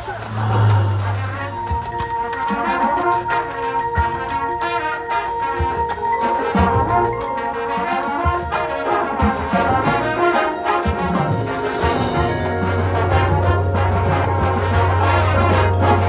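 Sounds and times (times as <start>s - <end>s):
brass chords: 0.0s - 16.0s
marching band playing: 0.0s - 16.0s
percussion hits: 0.0s - 16.0s.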